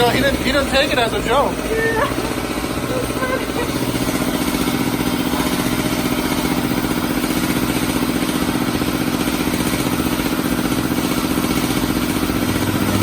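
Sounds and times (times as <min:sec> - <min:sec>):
motor running with fast pulse: 0:00.0 - 0:13.0.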